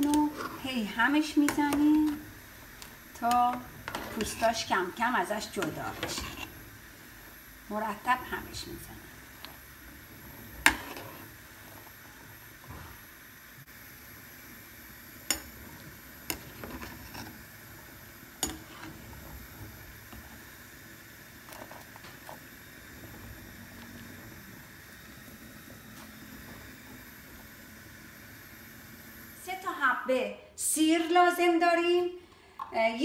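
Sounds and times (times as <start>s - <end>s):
pot boiling and bubbling: 0.0s - 30.1s.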